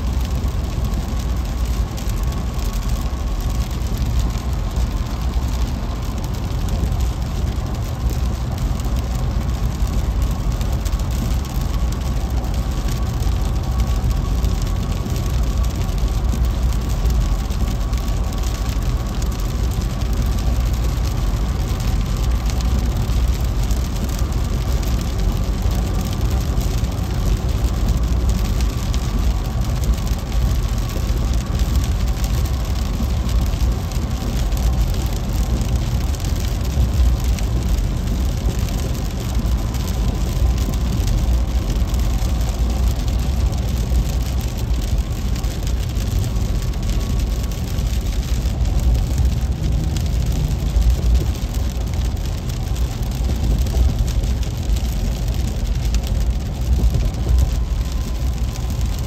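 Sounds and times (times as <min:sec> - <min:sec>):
engine and tyre rumble: 0:00.0 - 0:59.0
rain hitting windshield: 0:00.0 - 0:59.0.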